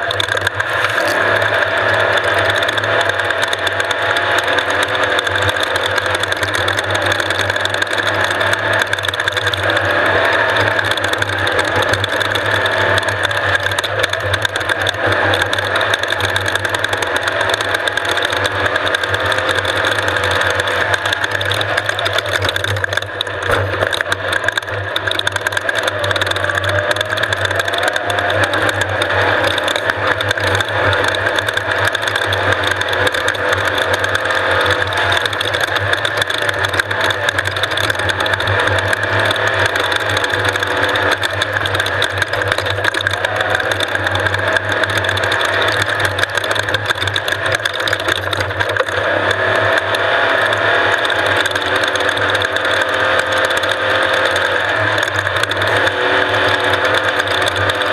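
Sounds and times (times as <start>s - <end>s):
race vehicle engine running: 0.0s - 57.9s.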